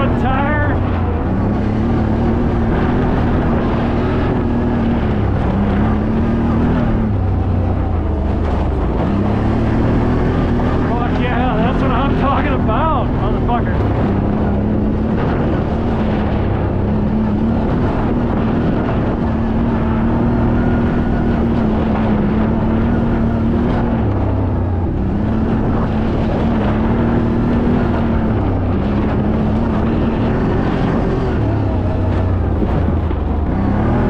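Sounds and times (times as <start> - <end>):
steady rushing noise: 0.0 - 34.0
vehicle engine revving: 0.0 - 34.0.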